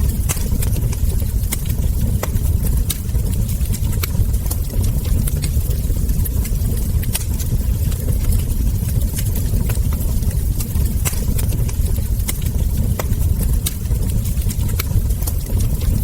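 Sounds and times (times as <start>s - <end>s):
sharp pops and snaps of fire: 0.0s - 16.0s
wood fire crackling: 0.0s - 16.0s.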